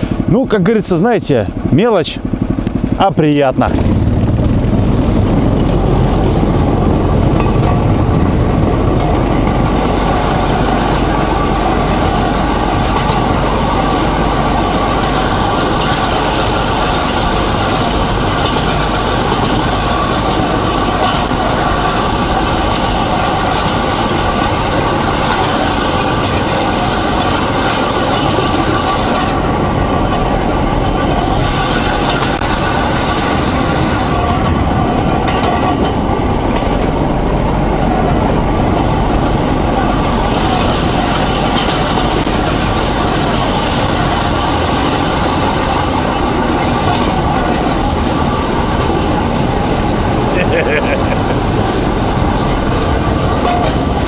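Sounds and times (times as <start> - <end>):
small engine running: 0.0 - 36.1, 38.5 - 54.0
wheels on rails: 0.0 - 54.0.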